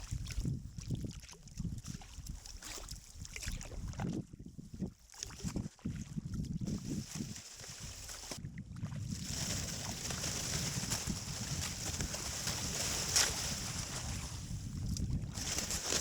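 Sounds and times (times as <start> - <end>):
water splashing around kayak: 0.0 - 4.2, 5.0 - 16.0
wind rumble on microphone: 0.0 - 16.0.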